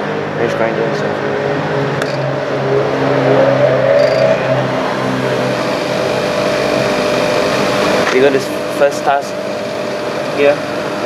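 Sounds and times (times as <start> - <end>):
bench grinder motor whine: 0.0 - 11.0.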